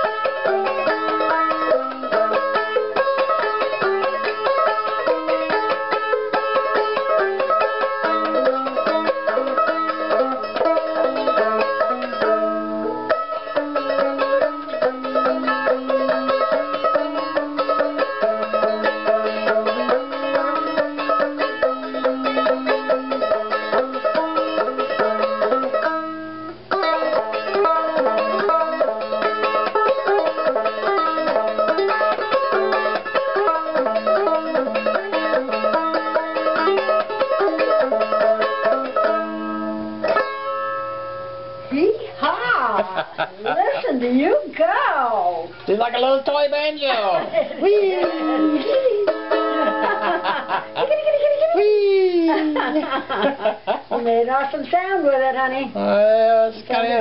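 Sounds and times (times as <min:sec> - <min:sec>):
banjo ukulele picking: 0:00.0 - 0:44.3, 0:45.8 - 0:57.0.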